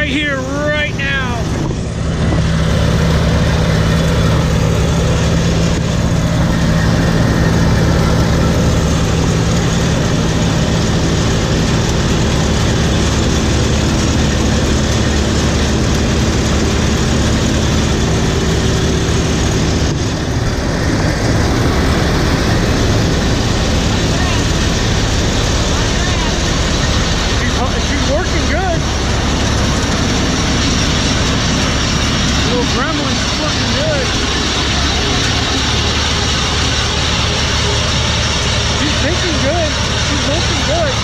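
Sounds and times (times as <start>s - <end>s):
combine engine drone: 0.0s - 41.0s
threshing machinery rattling: 0.0s - 41.0s.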